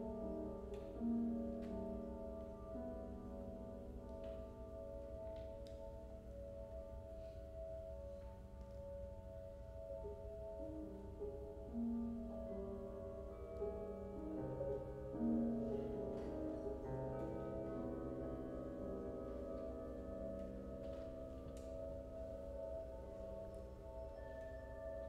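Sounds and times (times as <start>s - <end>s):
cello: 0.0s - 25.0s
piano: 0.0s - 25.0s.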